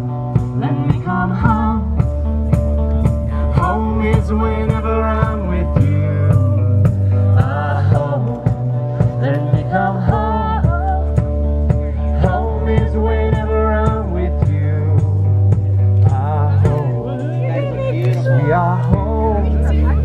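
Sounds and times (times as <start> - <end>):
band playing bass guitar and beat: 0.0 - 20.0
person singing: 0.2 - 2.2, 3.2 - 15.4, 16.0 - 20.0.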